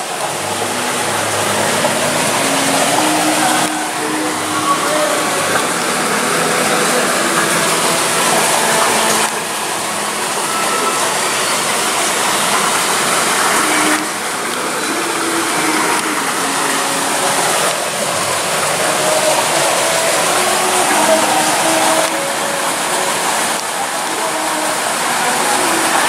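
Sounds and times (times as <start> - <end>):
faint distant voices: 0.0 - 26.0
loud rushing noise: 0.0 - 26.0.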